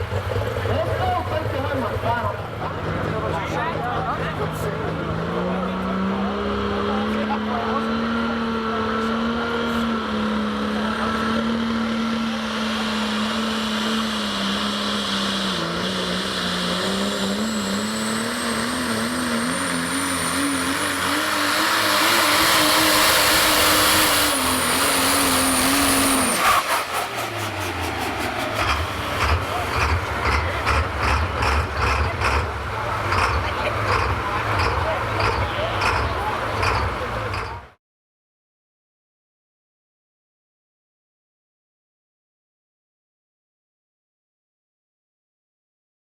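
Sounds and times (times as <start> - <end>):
vehicle engine under load: 0.0 - 37.8.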